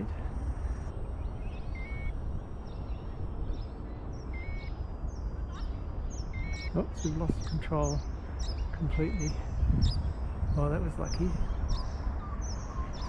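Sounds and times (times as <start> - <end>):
high whine of electric fans: 0.0 - 13.0
wind on microphone: 0.0 - 13.0.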